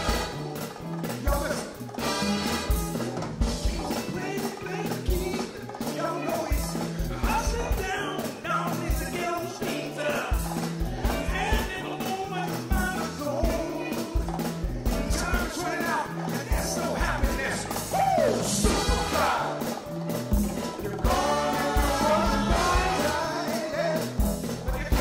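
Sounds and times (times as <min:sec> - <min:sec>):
bass line: 0:00.0 - 0:25.0
drum kit: 0:00.0 - 0:25.0.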